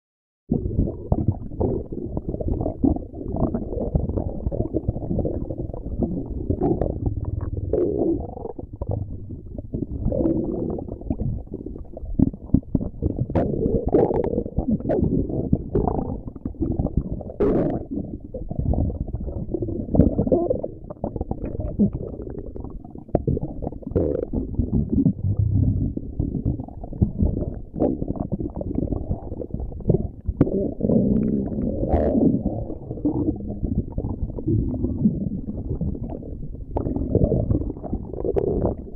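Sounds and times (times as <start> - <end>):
stomach growling: 0.5 - 38.9.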